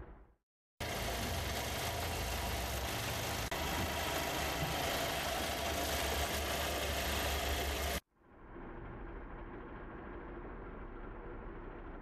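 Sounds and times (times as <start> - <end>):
car engine running at low revs: 0.8 - 12.0.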